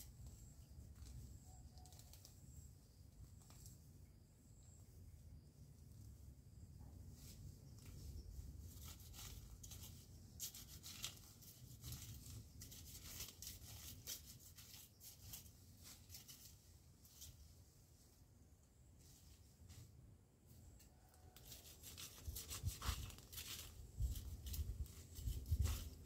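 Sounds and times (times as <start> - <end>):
rustling and scraping of plants and soil: 0.0 - 26.0.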